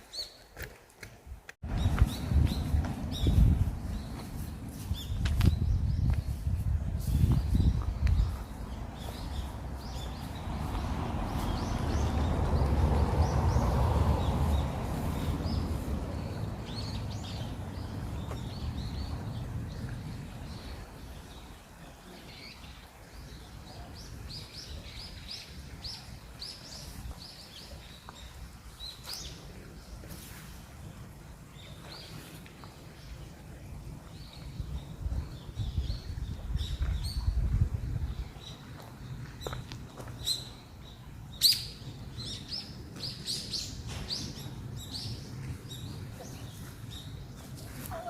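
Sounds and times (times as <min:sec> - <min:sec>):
songbirds chirping: 0:01.7 - 0:48.0.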